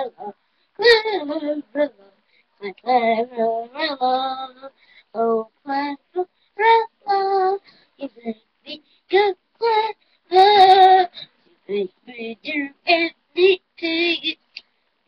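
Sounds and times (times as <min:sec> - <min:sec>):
child singing: 0:00.0 - 0:14.4.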